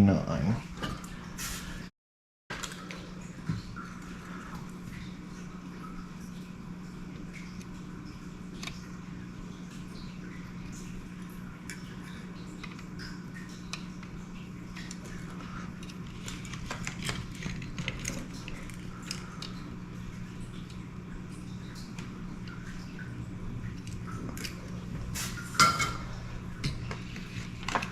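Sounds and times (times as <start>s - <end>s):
low electrical hum: 0.0s - 1.9s, 2.5s - 27.9s.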